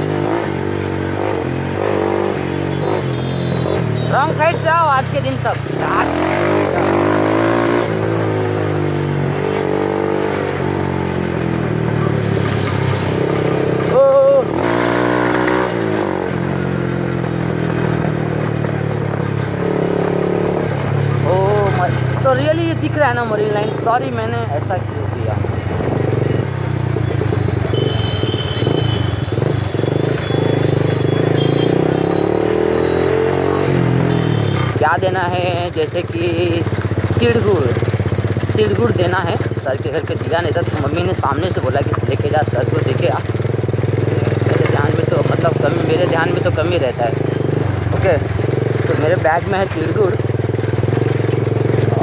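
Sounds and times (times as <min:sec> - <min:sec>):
motorcycle engine running: 0:00.0 - 0:52.0
road noise rushing: 0:00.0 - 0:52.0.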